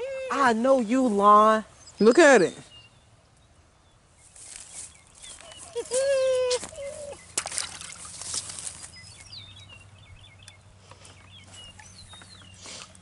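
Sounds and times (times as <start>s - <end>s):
small songbird chirping: 0.8s - 13.0s.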